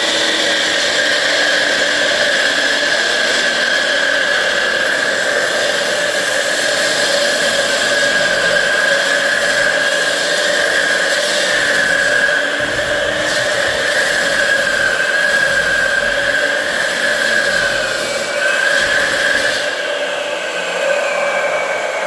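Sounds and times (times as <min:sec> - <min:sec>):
electric saw cutting into wall: 0:00.0 - 0:22.0.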